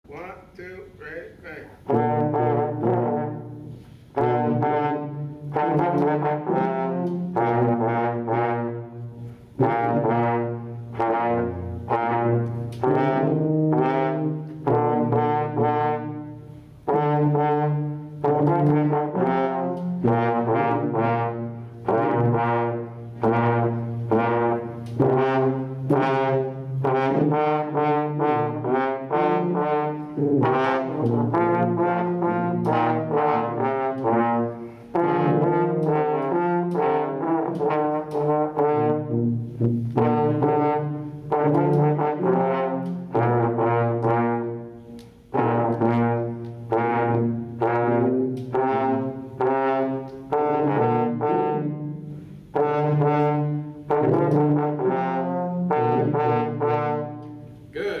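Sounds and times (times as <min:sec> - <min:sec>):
brass trio playing a fanfare: 0:01.8 - 0:44.7, 0:45.3 - 0:57.2.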